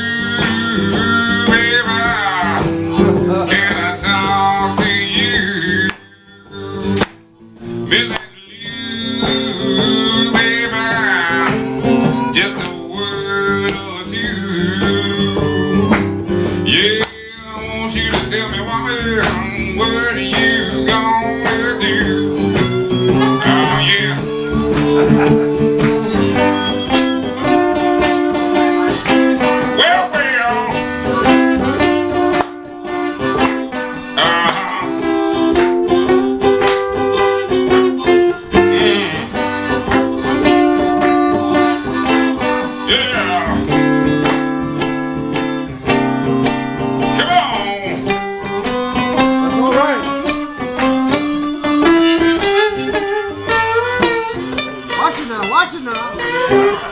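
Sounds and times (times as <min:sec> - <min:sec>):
blues harmonica solo: 0:00.0 - 0:56.9
strummed acoustic guitar: 0:00.0 - 0:56.9.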